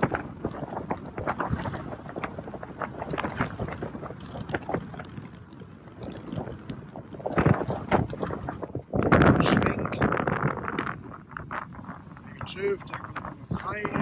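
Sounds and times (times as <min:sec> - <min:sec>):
short crackles and knocks: 0:00.0 - 0:14.0
wind buffeting microphone: 0:00.0 - 0:14.0.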